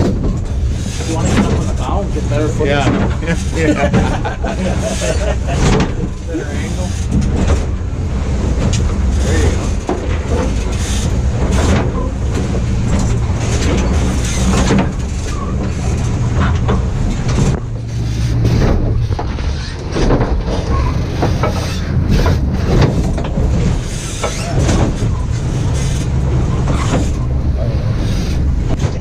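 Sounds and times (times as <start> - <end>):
boat engine humming: 0.0 - 29.0
hull splashing through waves: 0.0 - 29.0.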